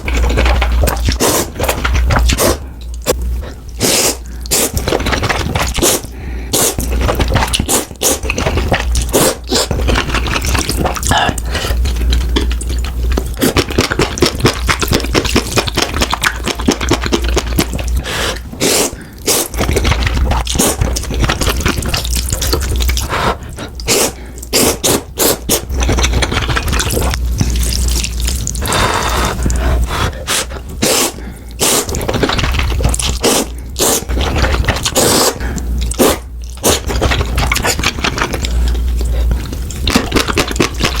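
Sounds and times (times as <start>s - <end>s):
slurping and chewing noodles: 0.0s - 41.0s.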